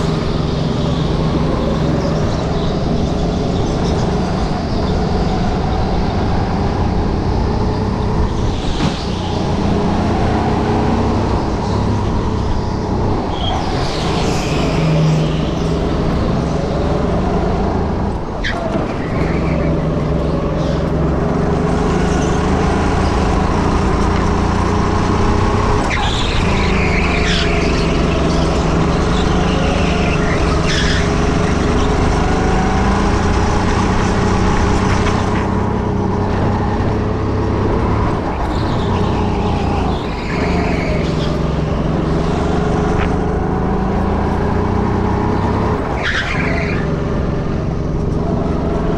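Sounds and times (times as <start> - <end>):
go-kart engine revving: 0.0 - 48.9.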